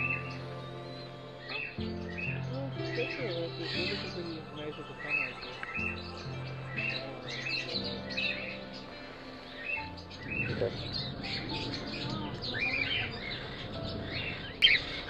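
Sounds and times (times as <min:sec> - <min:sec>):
background music with low notes: 0:00.0 - 0:15.0
birds chirping: 0:00.0 - 0:15.0.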